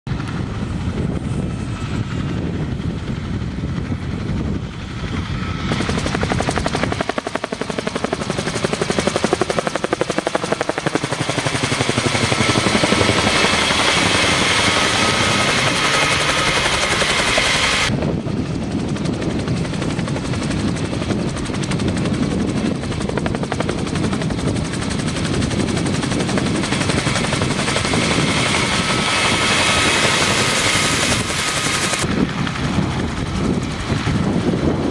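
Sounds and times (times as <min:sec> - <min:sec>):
helicopter flying by: 0:00.1 - 0:34.9
rotor beating rapidly: 0:03.0 - 0:34.8.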